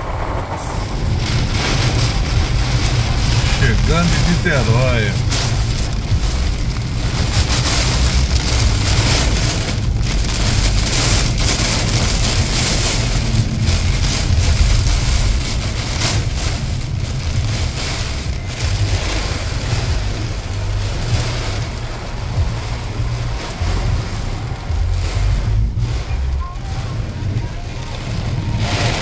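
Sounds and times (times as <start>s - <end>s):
heavy rain on car: 0.0s - 29.0s
low rumble: 0.0s - 29.0s.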